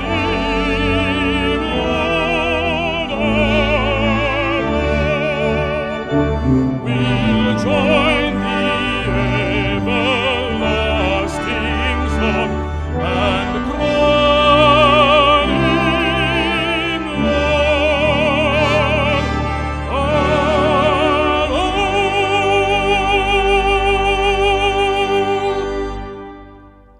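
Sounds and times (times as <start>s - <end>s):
baritone voice singing a hymn: 0.0s - 26.3s
brass ensemble: 0.0s - 26.9s.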